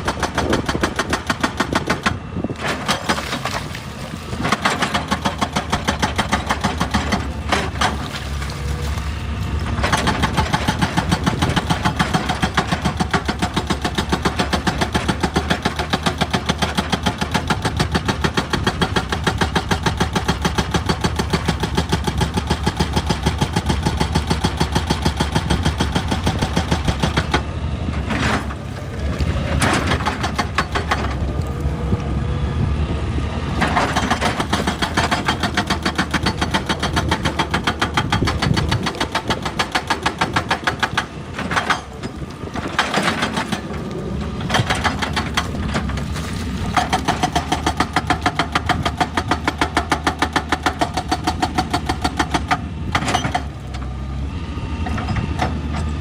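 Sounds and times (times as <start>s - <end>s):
excavator diesel engine pulsing: 0.0s - 56.0s.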